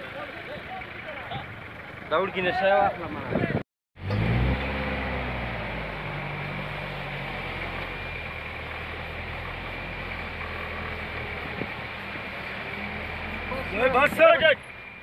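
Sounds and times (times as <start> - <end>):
road and wind noise: 0.0 - 15.0
vehicle engine drone: 0.0 - 15.0.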